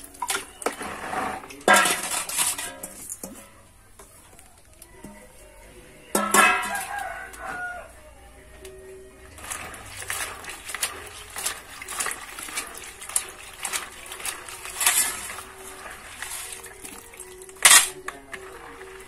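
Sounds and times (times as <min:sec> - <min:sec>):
water sloshing in a plastic basin: 0:00.0 - 0:05.4, 0:08.7 - 0:19.0.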